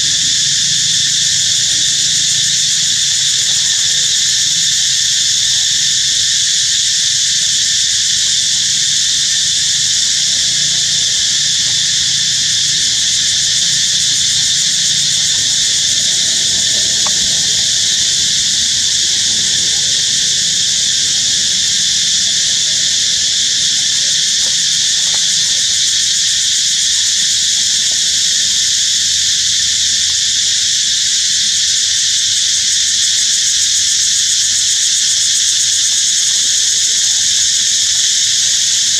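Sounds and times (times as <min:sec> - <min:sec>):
chorus of insects buzzing: 0:00.0 - 0:38.9.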